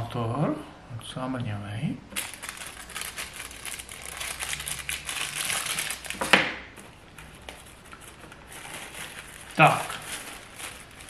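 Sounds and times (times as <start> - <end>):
plastic packaging crinkling: 2.1 - 11.0.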